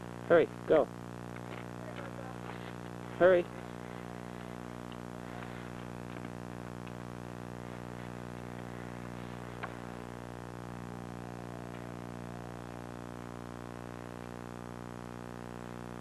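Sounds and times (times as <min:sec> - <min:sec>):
electrical hum and buzz: 0:00.0 - 0:16.0.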